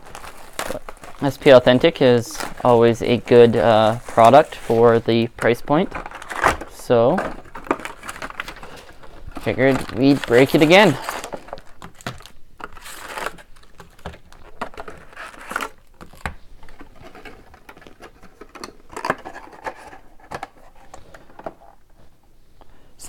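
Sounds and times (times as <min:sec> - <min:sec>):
plastic packaging tearing and crinkling: 0:00.0 - 0:20.6.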